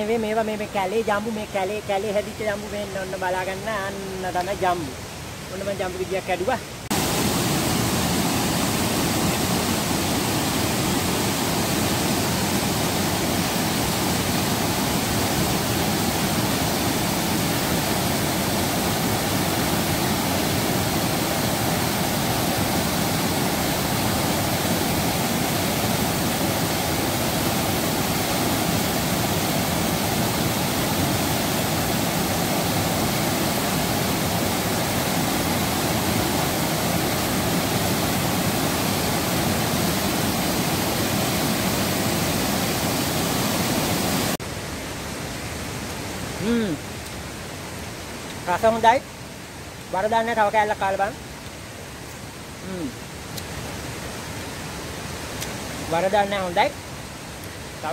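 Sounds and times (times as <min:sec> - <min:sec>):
white water rushing over rocks: 0:00.0 - 0:57.9.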